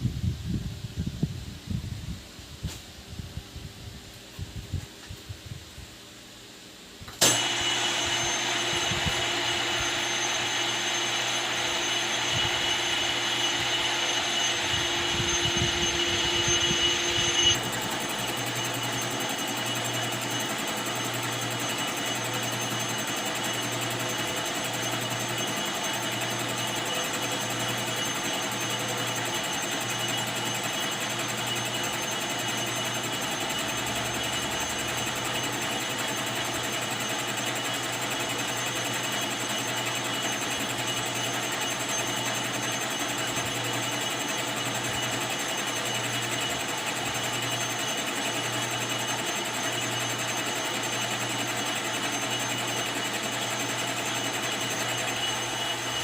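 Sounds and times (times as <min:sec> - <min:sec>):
lathe motor whine: 0:07.1 - 0:56.0.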